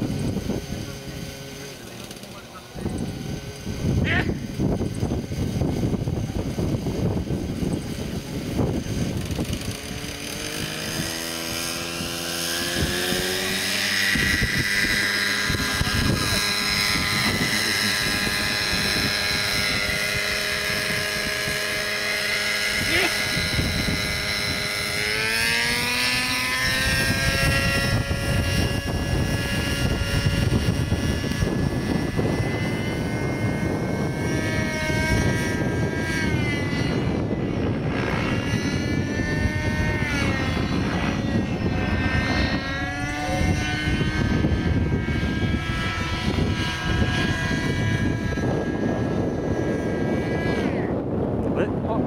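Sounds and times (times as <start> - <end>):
model helicopter engine whine: 0.0 - 52.0.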